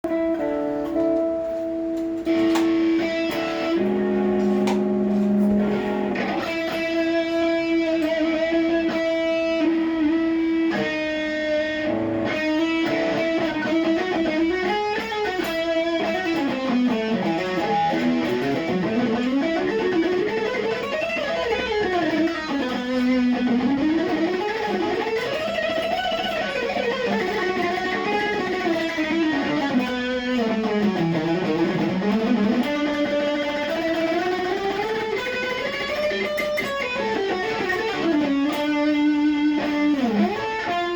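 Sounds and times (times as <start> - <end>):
electric guitar lead melody: 0.0 - 40.9.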